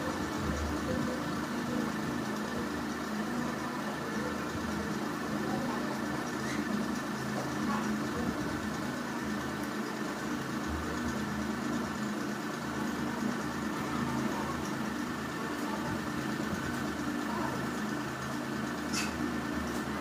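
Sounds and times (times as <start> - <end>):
machine hum with hiss: 0.0 - 20.0.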